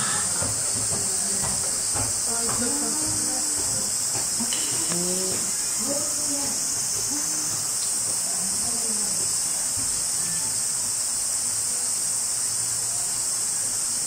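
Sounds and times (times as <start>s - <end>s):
faint indistinct murmur: 0.0s - 14.0s
high-pitched hiss: 0.0s - 14.0s.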